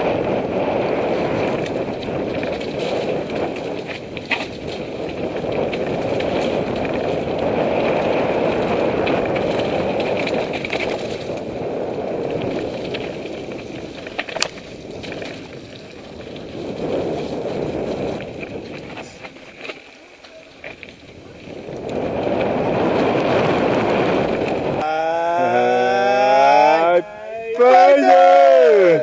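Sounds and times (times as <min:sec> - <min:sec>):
bike tyres crunching over stones: 0:00.0 - 0:26.8
bike rattling: 0:00.0 - 0:29.0.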